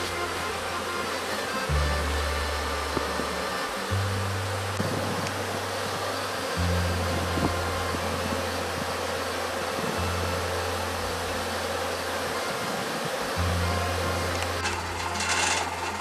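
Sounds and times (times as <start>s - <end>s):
honeybees buzzing: 0.0s - 16.0s
steady low hum: 0.0s - 16.0s.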